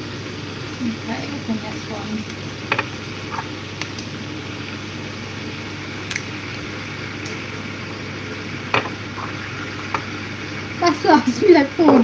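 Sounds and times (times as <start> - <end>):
kitchen hum and hiss: 0.0 - 12.0.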